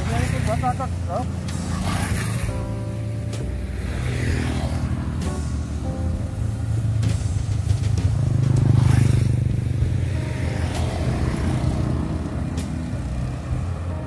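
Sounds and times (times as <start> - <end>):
motorcycle engines running: 0.0 - 14.0
motorcycle passing by: 0.0 - 14.0.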